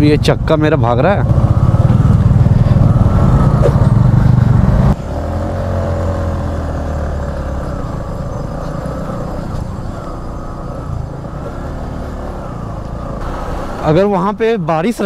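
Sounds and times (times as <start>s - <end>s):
motorcycle engine running: 0.0s - 14.3s.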